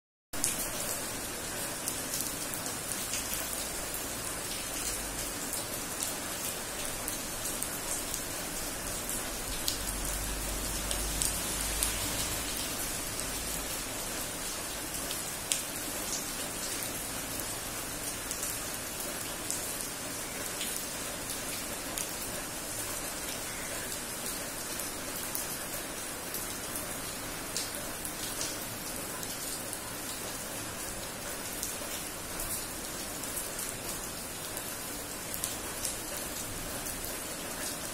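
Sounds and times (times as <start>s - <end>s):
rain falling on paving: 0.4s - 37.9s.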